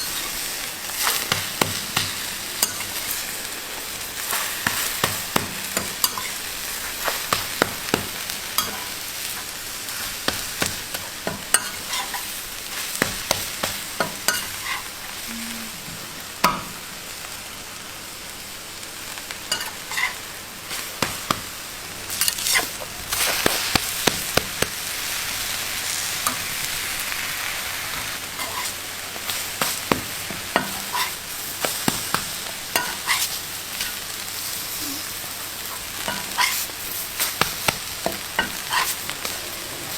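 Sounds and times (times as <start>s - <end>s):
food sizzling: 0.0s - 39.9s.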